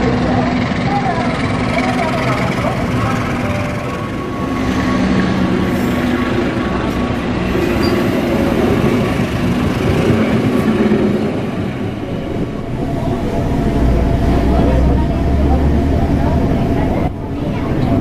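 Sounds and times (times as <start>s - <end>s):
diesel engine hum: 0.0s - 18.0s
train cars rumbling over rails: 0.0s - 18.0s.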